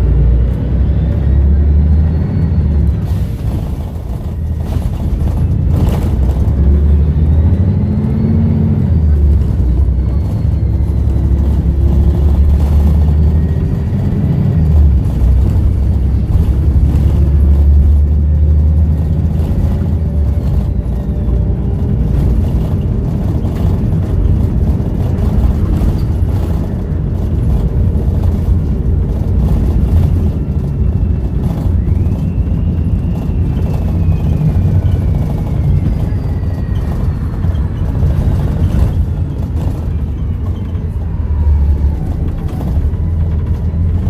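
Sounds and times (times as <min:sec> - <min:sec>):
bus diesel engine rumble: 0:00.0 - 0:44.0.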